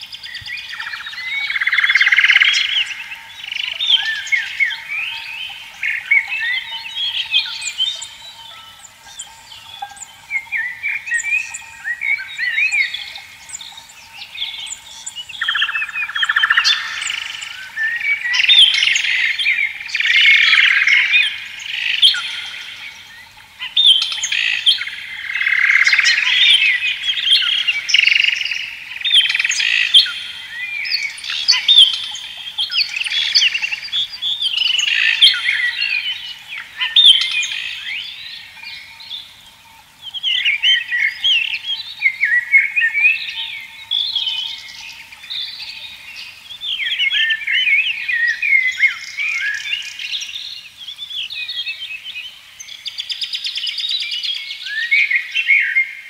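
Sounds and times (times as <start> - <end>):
faint steady tone: 0.0 - 52.8
small birds chirping: 0.0 - 56.0.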